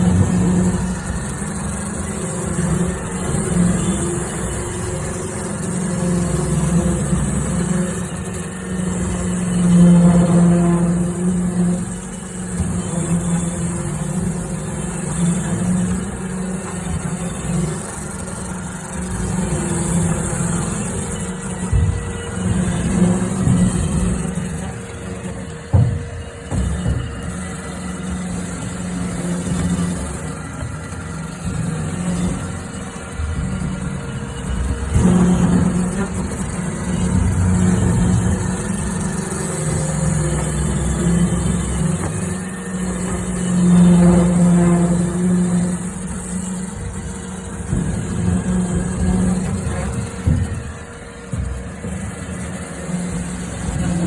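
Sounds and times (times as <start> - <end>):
robot vacuum motor hum in duct: 0.0 - 54.0.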